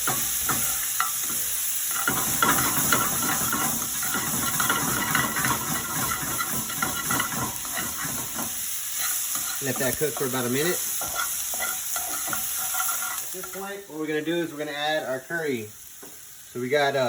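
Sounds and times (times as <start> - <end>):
vegetables sizzling in hot oil: 0.0 - 17.0
utensil scraping against pan: 0.1 - 13.8.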